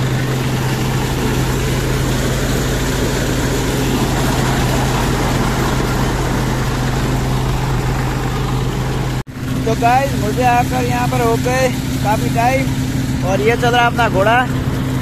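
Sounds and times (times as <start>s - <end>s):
thresher mechanical noise: 0.0s - 15.0s
tractor engine humming: 0.0s - 15.0s.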